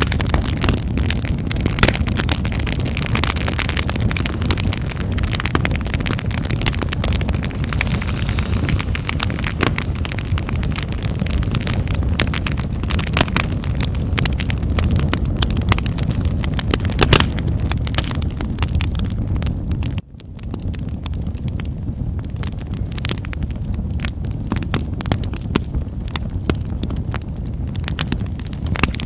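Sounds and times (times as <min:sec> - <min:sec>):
low rumble of flames: 0:00.0 - 0:29.0
wood fire crackling and popping: 0:00.0 - 0:29.0.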